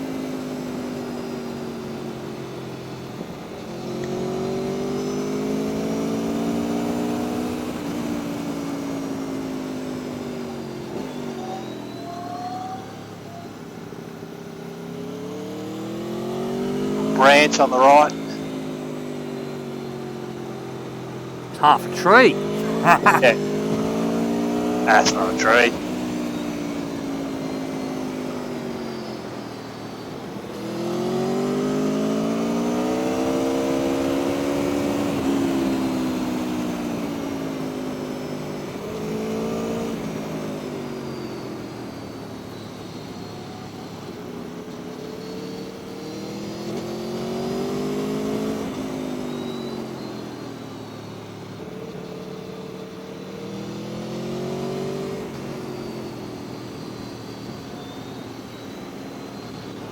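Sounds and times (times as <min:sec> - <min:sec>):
motorcycle engine accelerating: 0:00.0 - 0:13.6, 0:14.2 - 0:17.2, 0:22.3 - 0:24.9, 0:25.7 - 0:59.9.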